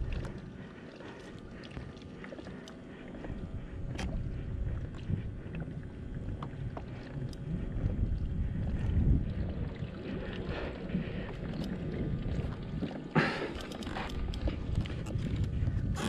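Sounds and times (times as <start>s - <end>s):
water slapping kayak hull: 0.0s - 16.0s
wind rumble on microphone: 0.0s - 16.0s.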